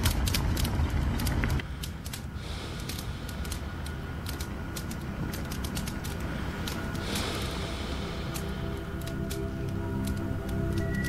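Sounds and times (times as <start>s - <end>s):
low rumble: 0.0s - 11.0s
sharp clicks and ticks: 0.0s - 11.0s.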